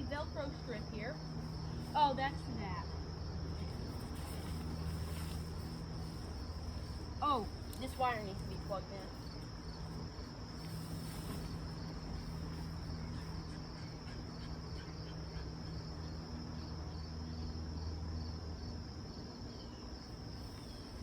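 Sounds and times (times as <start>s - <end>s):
crickets chirping: 0.0s - 21.0s
low steady hum: 0.0s - 21.0s.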